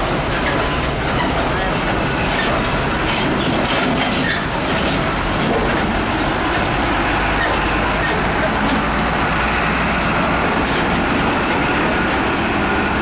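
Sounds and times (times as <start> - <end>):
diesel truck engine rumbling: 0.0 - 13.0
trailer rattling and clanking: 0.0 - 13.0.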